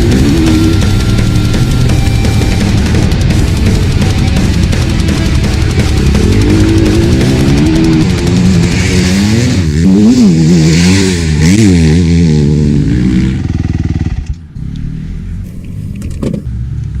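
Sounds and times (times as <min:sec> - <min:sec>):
motocross bike engine revving: 0:00.0 - 0:16.8.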